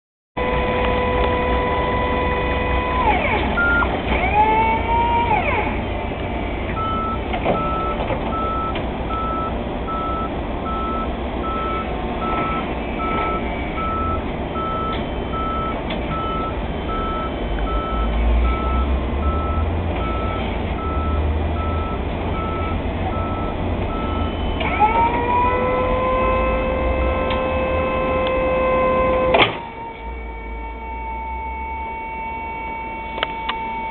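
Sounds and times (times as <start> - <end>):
electric truck motor whine: 0.4 - 33.9
warning alarm beeping: 6.8 - 33.9.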